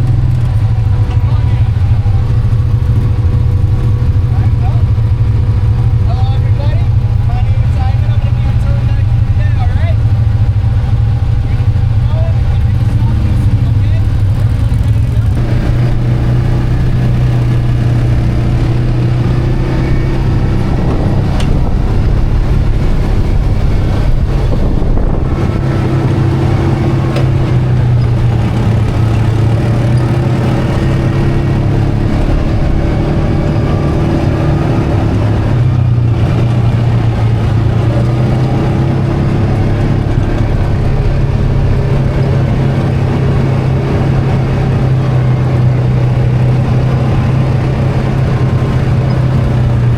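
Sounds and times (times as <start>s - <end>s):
atv engine droning: 0.0s - 49.9s.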